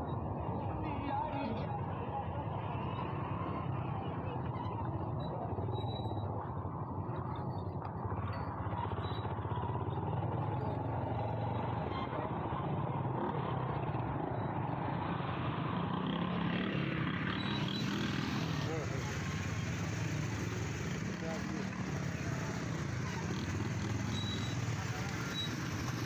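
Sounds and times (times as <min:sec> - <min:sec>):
hum of traffic: 0:00.0 - 0:26.0
motorcycle engine running: 0:01.7 - 0:26.0.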